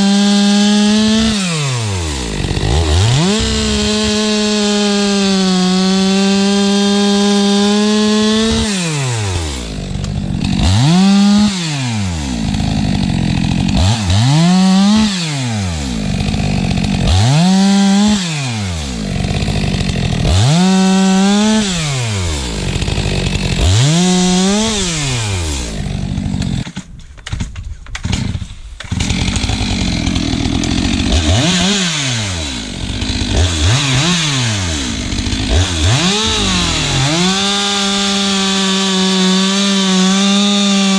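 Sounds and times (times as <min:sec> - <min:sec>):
chainsaw revving: 0:00.0 - 0:26.8, 0:28.0 - 0:40.9.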